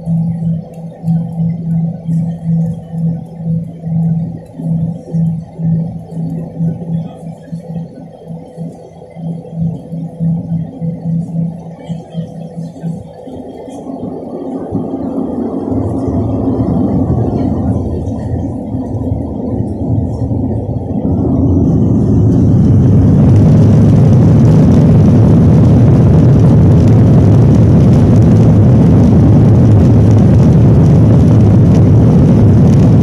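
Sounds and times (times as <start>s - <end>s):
jet engines spooling up: 0.0s - 33.0s.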